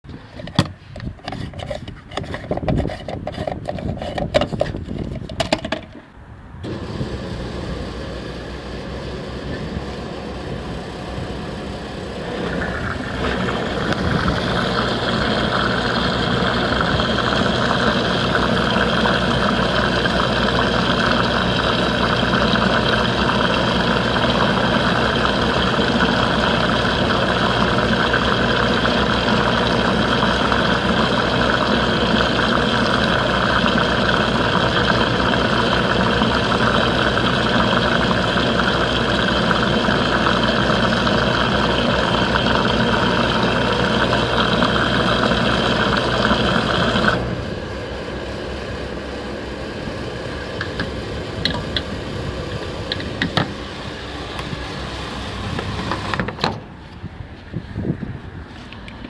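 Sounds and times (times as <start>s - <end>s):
fuel dispenser humming: 6.6s - 56.6s.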